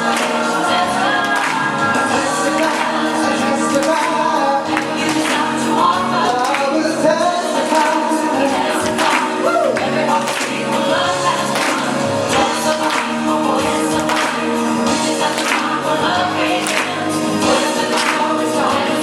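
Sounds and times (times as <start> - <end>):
gospel pop song with choir vocals: 0.0 - 19.0.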